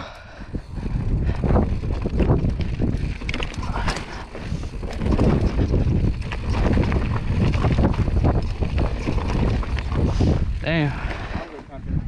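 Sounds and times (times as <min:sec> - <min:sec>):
wind buffeting microphone: 0:00.0 - 0:12.0
bike knocking and rattling: 0:00.5 - 0:12.0
tyres crunching over gravel: 0:01.8 - 0:11.7.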